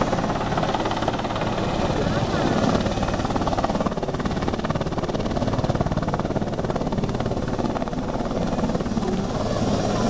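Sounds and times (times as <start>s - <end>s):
helicopter rotor chop: 0.0s - 10.0s
helicopter turbine engines: 0.0s - 10.0s.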